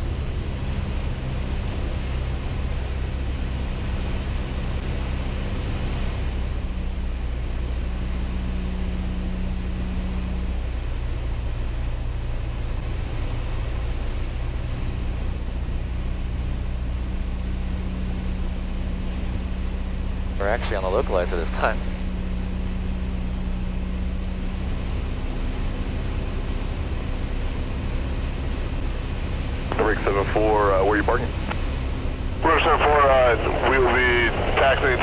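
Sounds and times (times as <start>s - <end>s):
aircraft engine and propeller droning: 0.0s - 35.0s.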